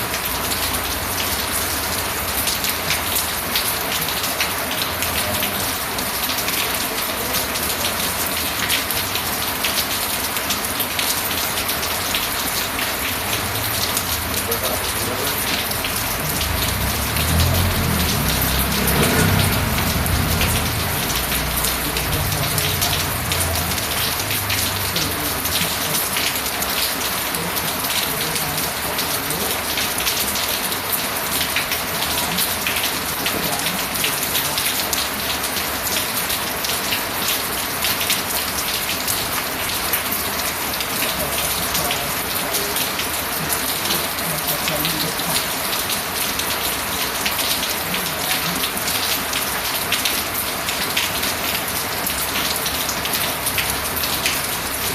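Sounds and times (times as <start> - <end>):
rain pattering on a surface: 0.0 - 54.9.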